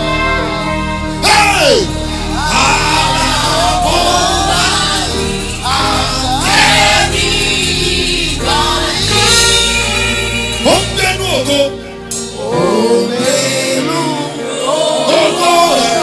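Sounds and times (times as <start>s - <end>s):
group of voices singing: 0.0s - 10.7s, 12.3s - 16.0s
instrumental backing with bass: 0.0s - 16.0s.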